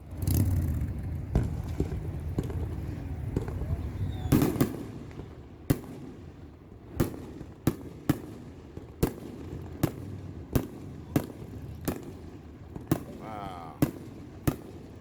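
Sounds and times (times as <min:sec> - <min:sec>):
fireworks booming: 0:00.1 - 0:06.0, 0:06.9 - 0:15.0.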